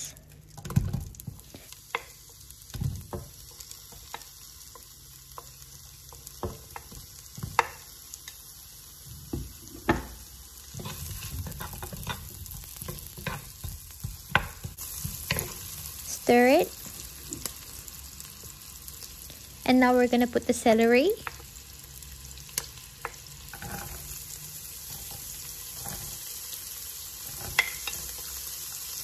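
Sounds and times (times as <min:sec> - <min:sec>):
light sizzle: 0:00.0 - 0:29.0.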